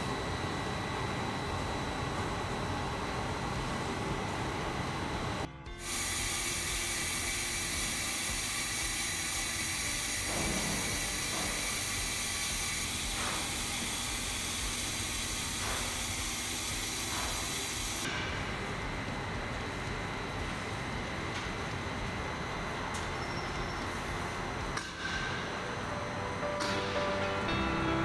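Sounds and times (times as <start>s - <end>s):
electric pump motor whine: 0.0s - 24.8s.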